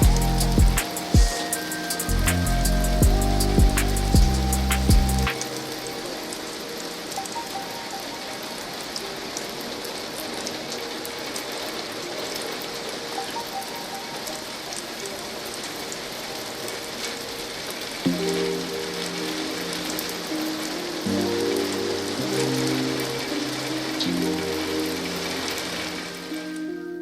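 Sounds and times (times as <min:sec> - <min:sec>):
rain pattering: 0:00.0 - 0:26.8.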